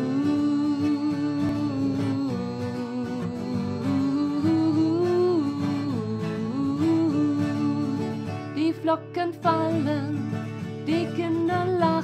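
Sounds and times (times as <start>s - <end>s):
person singing wordless notes: 0.0s - 10.1s
guitar accompaniment: 0.0s - 12.0s.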